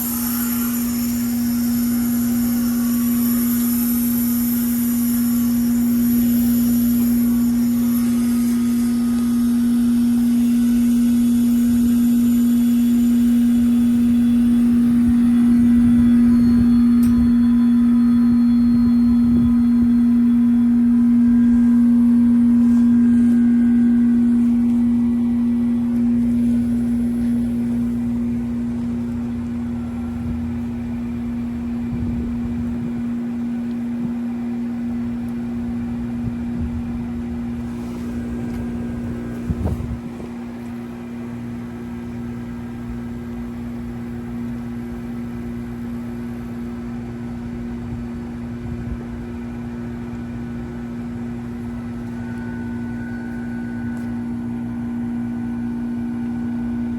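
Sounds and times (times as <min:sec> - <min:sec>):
heat pump humming: 0:00.0 - 0:56.9.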